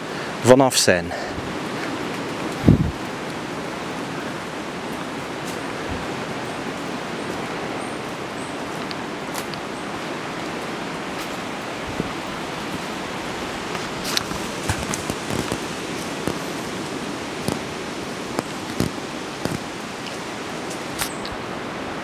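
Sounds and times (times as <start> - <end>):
forest ambience rushing noise: 0.0 - 22.0.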